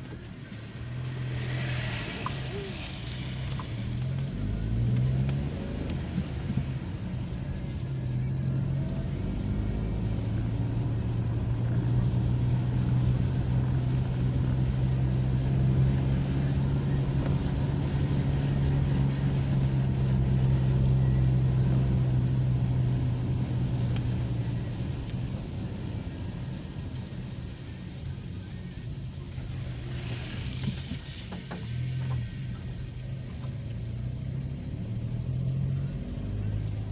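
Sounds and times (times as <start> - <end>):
car engine running: 0.0 - 36.9
tyre and road noise: 0.0 - 36.9.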